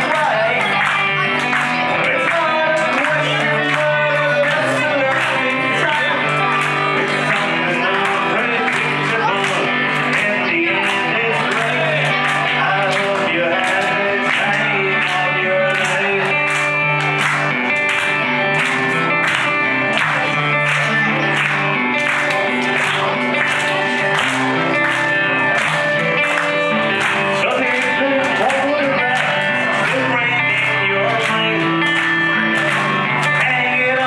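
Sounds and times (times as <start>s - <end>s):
bass guitar: 0.0s - 34.0s
electric guitar: 0.0s - 34.0s.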